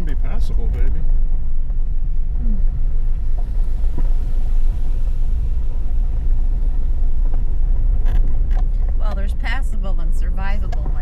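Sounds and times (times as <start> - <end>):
vehicle engine rumble from inside: 0.0 - 11.0.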